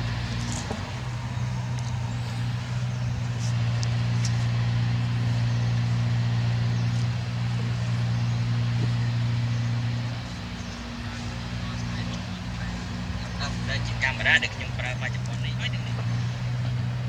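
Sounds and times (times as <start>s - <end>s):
motor running steadily: 0.0s - 17.0s.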